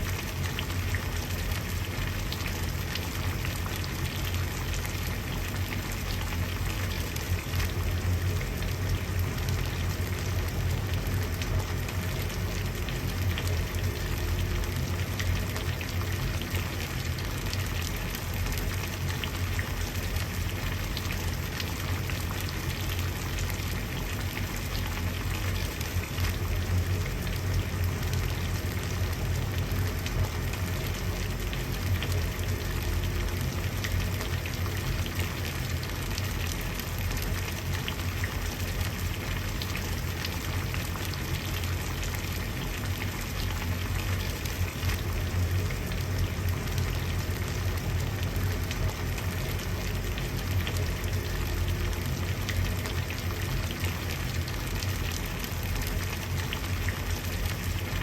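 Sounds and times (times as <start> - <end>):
water boiling and bubbling: 0.0 - 58.0.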